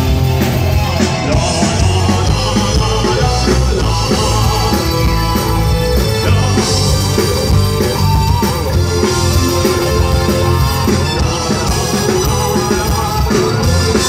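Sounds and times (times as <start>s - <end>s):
bass: 0.0s - 14.0s
drum kit: 0.0s - 14.0s
electric guitars: 0.0s - 14.0s
keyboard: 0.0s - 14.0s.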